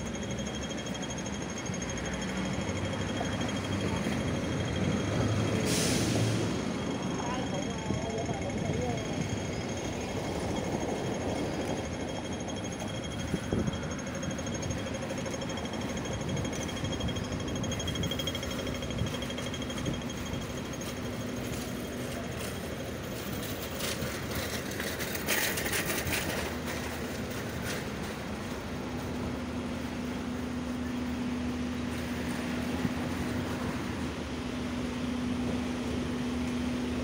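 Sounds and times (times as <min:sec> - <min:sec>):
city street traffic: 0:00.0 - 0:37.0
diesel truck engines idling: 0:00.0 - 0:37.0.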